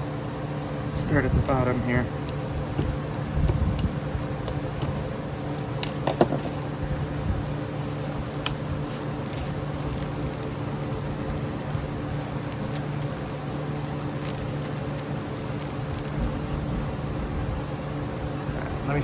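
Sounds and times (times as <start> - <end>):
shop fan humming: 0.0 - 19.0.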